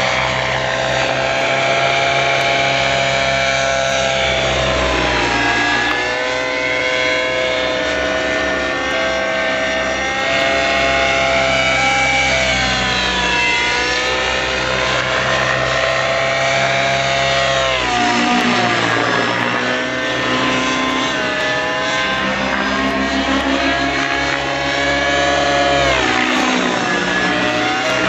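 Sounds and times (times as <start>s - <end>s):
model helicopter rotor whine: 0.0s - 28.0s.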